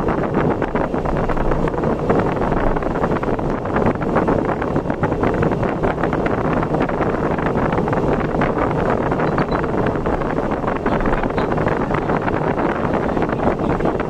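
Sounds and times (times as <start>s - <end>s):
road and engine noise: 0.0s - 14.0s
wind buffeting microphone: 0.0s - 14.0s.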